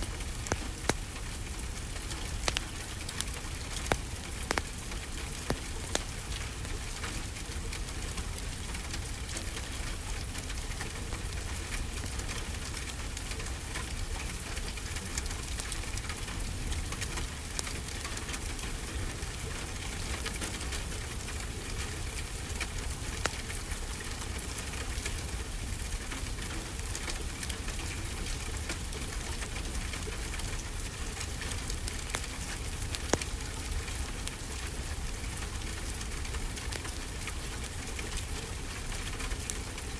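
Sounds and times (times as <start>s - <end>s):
crackling wood fire: 0.0s - 39.9s
steady rainfall: 0.0s - 39.9s.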